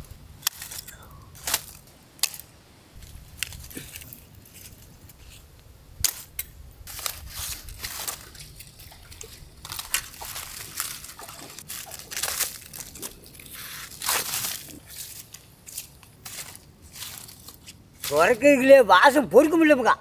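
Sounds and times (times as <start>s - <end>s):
aluminium foil crinkling and tearing: 0.4s - 5.5s, 6.1s - 18.4s.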